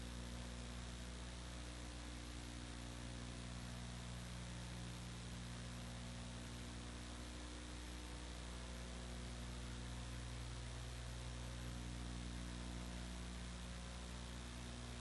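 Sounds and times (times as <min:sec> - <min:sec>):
constant hiss: 0:00.0 - 0:15.0
electrical mains hum: 0:00.0 - 0:15.0.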